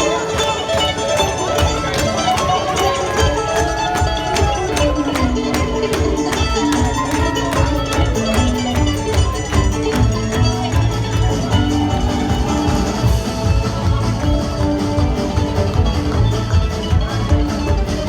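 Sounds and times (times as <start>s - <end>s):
bluegrass string band playing: 0.0s - 18.0s
quick plucked mandolin notes: 0.0s - 18.0s.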